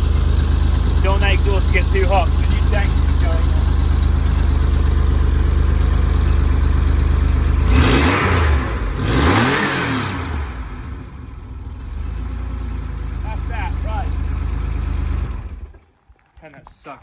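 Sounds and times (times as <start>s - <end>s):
car engine idling and revving: 0.0s - 16.3s.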